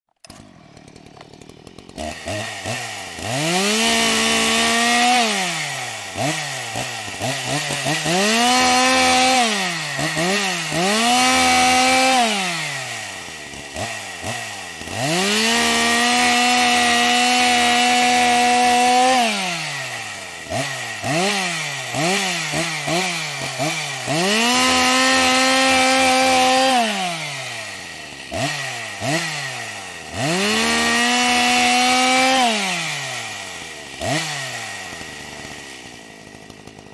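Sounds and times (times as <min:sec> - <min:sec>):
chainsaw engine revving and idling: 0:00.1 - 0:36.9.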